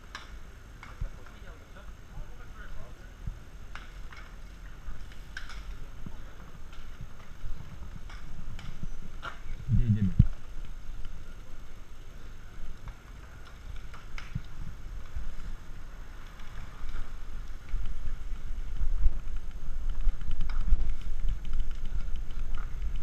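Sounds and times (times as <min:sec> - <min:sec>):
wind rumbling on microphone: 0:01.9 - 0:23.0.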